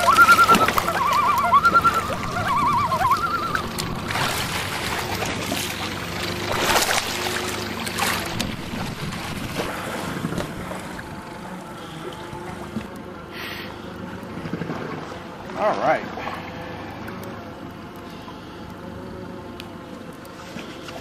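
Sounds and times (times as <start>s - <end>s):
boat motor running steadily: 0.0s - 21.0s
water noise: 0.0s - 21.0s
wind: 0.0s - 21.0s.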